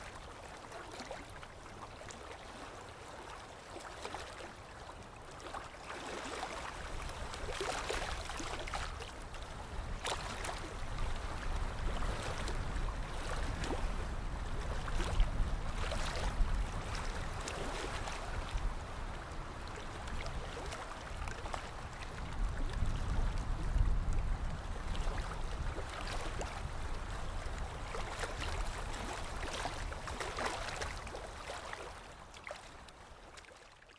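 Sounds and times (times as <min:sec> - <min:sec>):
water lapping and splashing: 0:00.0 - 0:33.9.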